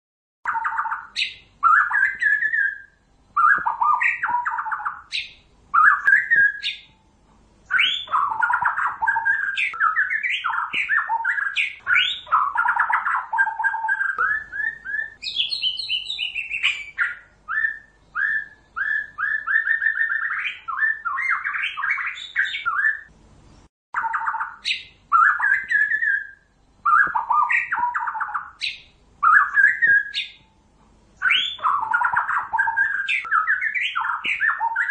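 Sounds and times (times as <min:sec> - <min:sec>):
songbird whistling: 0:00.5 - 0:07.0, 0:07.6 - 0:23.1, 0:24.0 - 0:30.6, 0:31.2 - 0:34.9.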